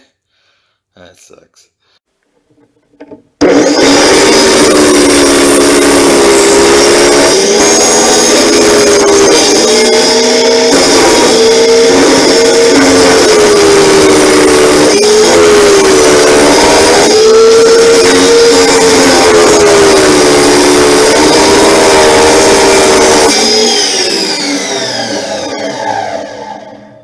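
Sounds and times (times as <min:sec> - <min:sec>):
electric grinder whining: 0:03.0 - 0:27.0.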